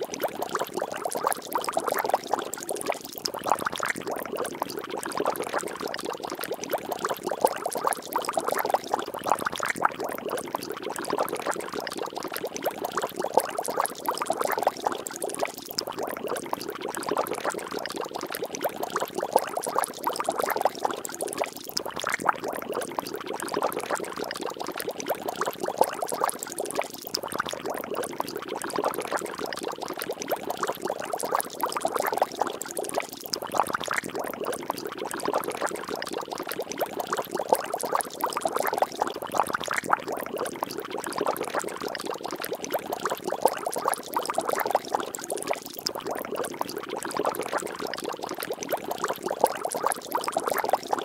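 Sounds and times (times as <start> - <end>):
water splashing and bubbling: 0.0 - 51.0.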